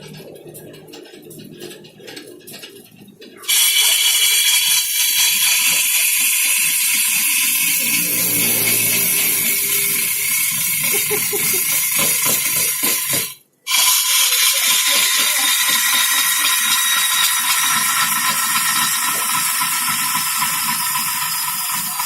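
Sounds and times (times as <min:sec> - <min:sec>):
power tool hissing: 0:03.6 - 0:22.0.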